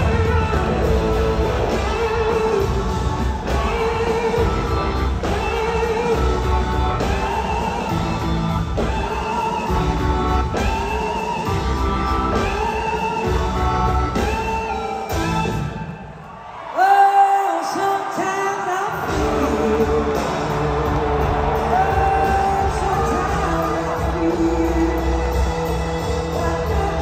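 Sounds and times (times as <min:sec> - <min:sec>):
drums: 0:00.0 - 0:27.0.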